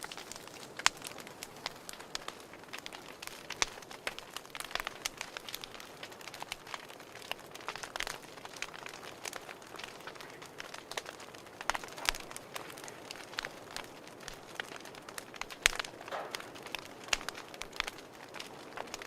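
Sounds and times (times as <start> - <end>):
soft steady fire hiss: 0.0 - 19.0
wood fire crackling: 0.0 - 19.0.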